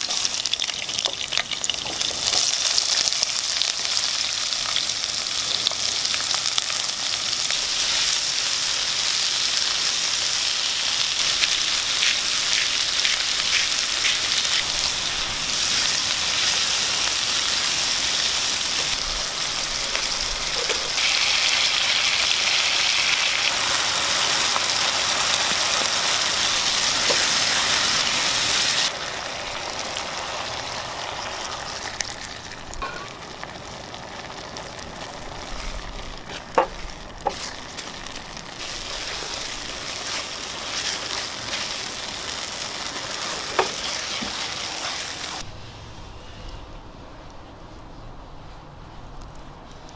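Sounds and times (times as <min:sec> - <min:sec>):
vegetables sizzling in oil: 0:00.0 - 0:45.4.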